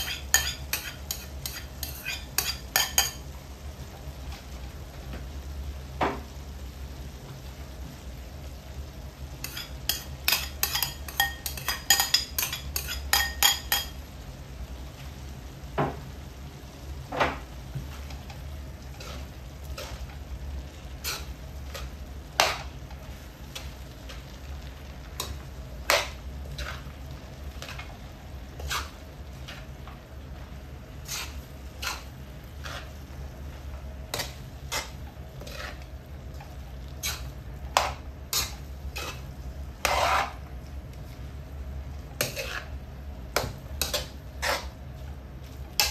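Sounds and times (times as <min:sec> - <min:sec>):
spatula scraping wok: 0:00.0 - 0:04.7, 0:09.3 - 0:14.0, 0:17.4 - 0:45.9.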